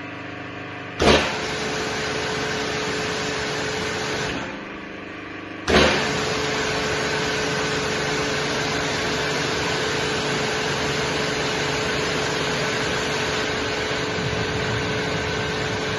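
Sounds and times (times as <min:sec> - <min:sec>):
motor humming: 0:00.0 - 0:15.9
pump whine: 0:00.0 - 0:15.9.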